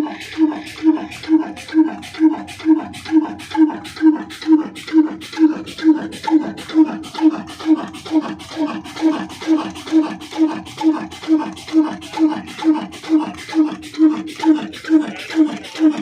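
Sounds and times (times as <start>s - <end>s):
single-cylinder diesel engine running: 0.0s - 16.0s.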